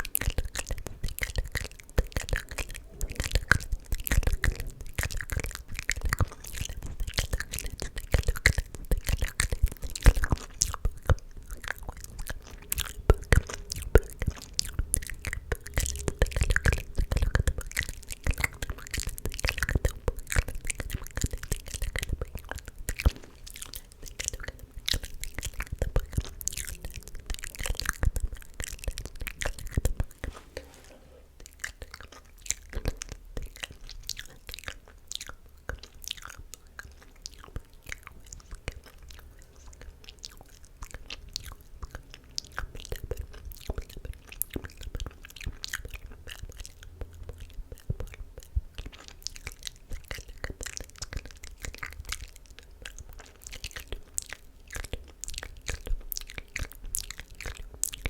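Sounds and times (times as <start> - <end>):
wet mouth clicks and smacks: 0.0 - 30.4, 31.4 - 58.0.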